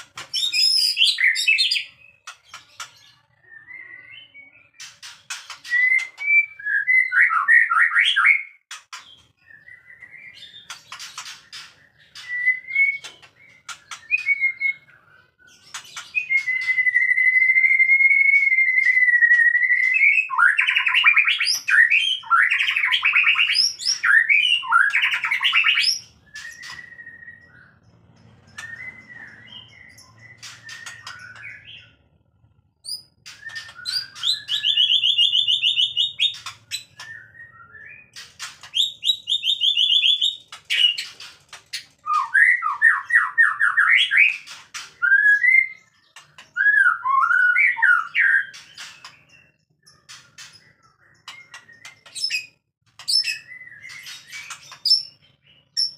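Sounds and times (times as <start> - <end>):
bird singing trills: 0.0 - 55.9.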